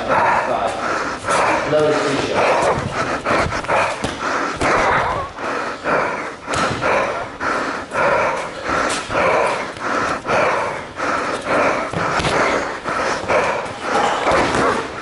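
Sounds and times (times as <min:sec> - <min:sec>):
heavy rapid breathing: 0:00.0 - 0:15.0.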